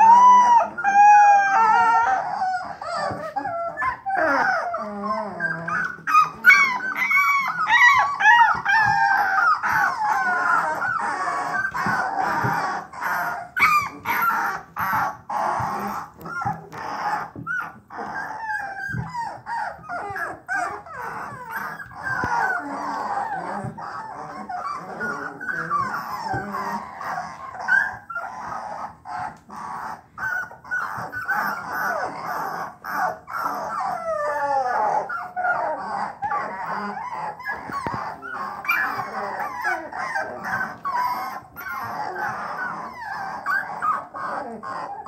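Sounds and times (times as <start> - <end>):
puppies bawling and whimpering: 0.0 - 45.0.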